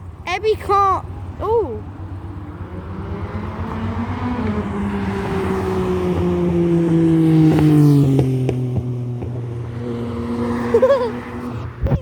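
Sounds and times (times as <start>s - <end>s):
car driving past: 1.9s - 11.9s.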